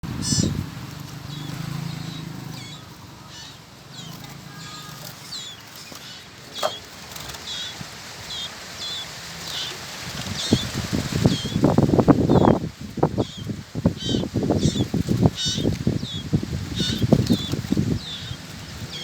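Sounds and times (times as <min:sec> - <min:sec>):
small bird chirping: 0:00.2 - 0:11.6, 0:12.3 - 0:12.6, 0:13.2 - 0:19.0.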